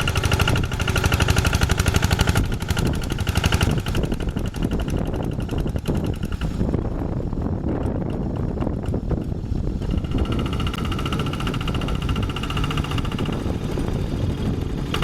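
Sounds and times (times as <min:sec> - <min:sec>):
diesel engine chugging: 0:00.0 - 0:15.0.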